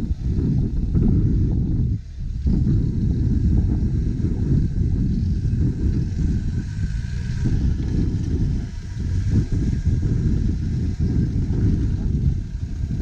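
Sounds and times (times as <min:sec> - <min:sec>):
diesel engine rumbling under load: 0:00.0 - 0:13.0.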